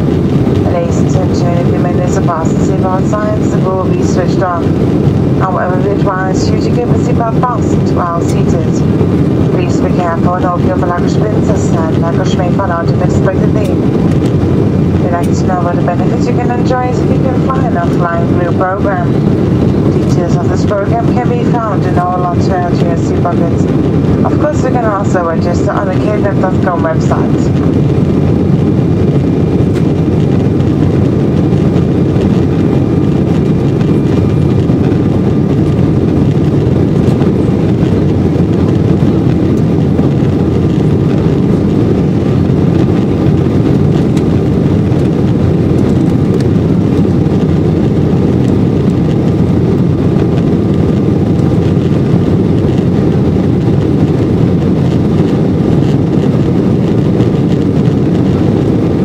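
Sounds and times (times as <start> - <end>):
air rushing over fuselage: 0.0 - 59.0
airplane cabin engine noise: 0.0 - 59.0.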